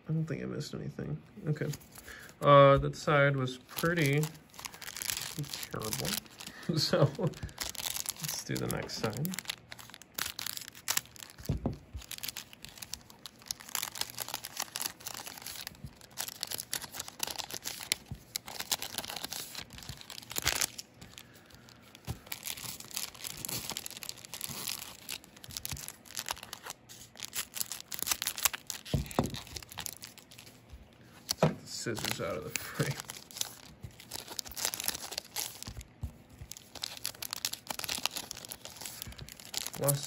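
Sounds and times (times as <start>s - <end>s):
foil wrappers tearing and crinkling: 3.5s - 40.0s.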